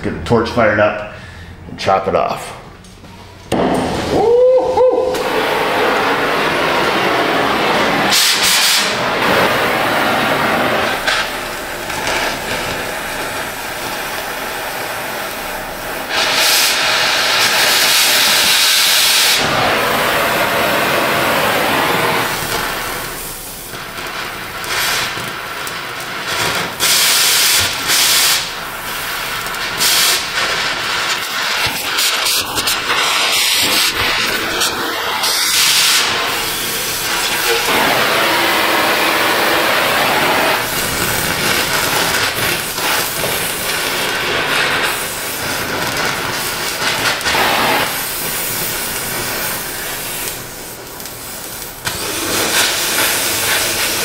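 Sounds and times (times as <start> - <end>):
gas cutting torch hissing: 3.5 - 54.0.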